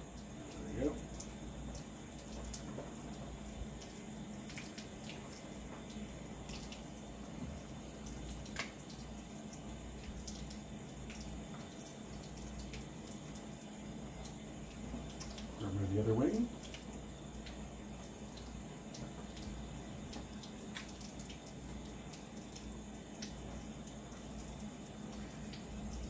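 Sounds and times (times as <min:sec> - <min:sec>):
small clicks and splashes: 0:00.0 - 0:26.0.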